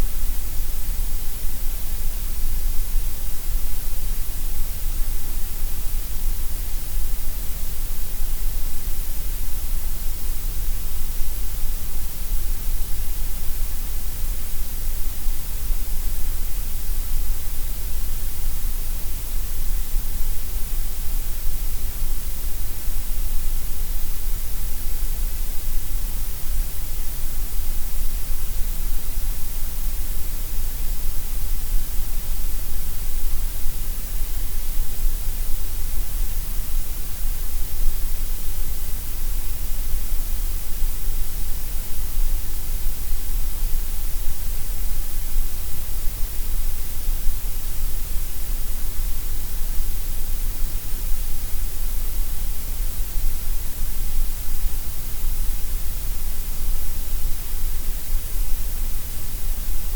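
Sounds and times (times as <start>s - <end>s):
gray noise hiss: 0.0s - 59.9s.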